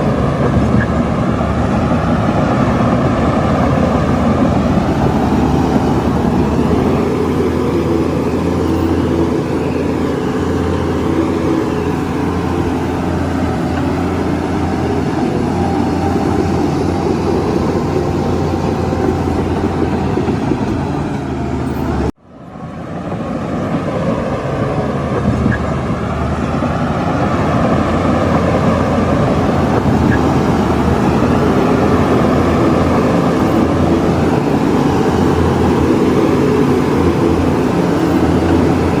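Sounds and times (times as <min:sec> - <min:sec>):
heavy diesel machinery running: 0:00.0 - 0:39.0.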